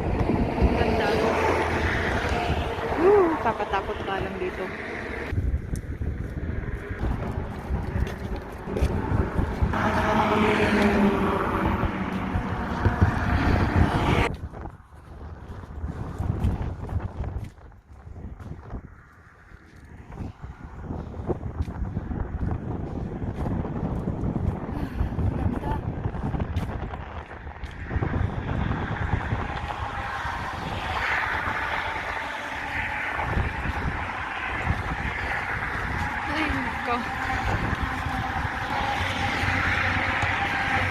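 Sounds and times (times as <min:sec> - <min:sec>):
vehicle passing: 0:00.0 - 0:40.9
wind buffeting microphone: 0:00.0 - 0:40.9.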